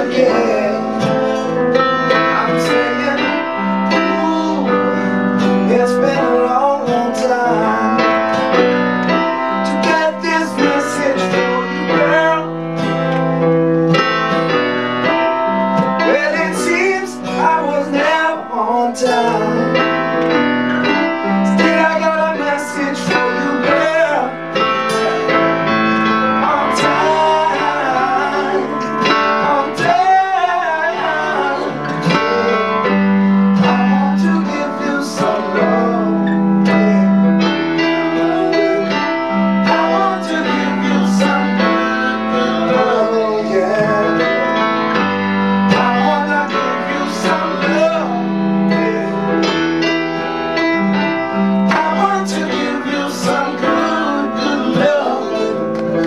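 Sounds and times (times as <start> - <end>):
man singing: 0.0 - 13.5, 15.8 - 50.0, 50.6 - 56.0
piano keyboard: 0.0 - 56.0
strummed acoustic guitar: 0.0 - 56.0.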